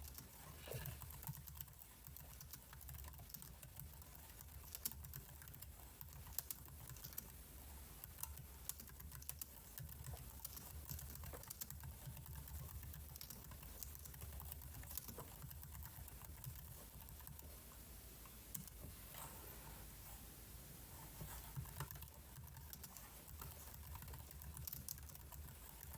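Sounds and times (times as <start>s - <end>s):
computer keyboard keys clicking: 0.0s - 7.4s, 8.1s - 17.4s, 21.6s - 25.9s
faint low hum: 0.0s - 25.9s.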